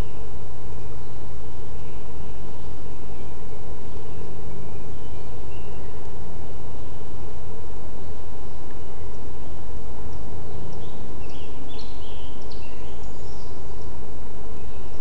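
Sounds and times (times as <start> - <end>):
bird chirps: 0.0 - 15.0
loud low rumble: 0.0 - 15.0.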